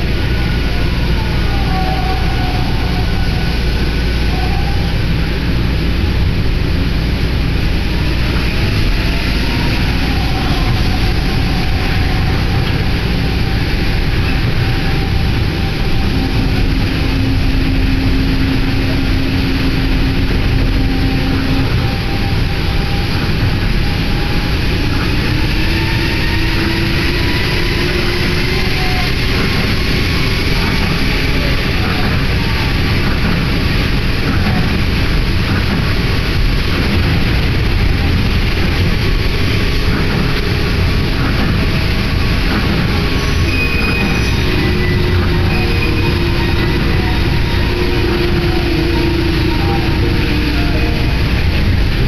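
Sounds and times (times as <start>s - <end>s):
monorail car rumbling: 0.0s - 52.0s
steady hum: 2.2s - 52.0s.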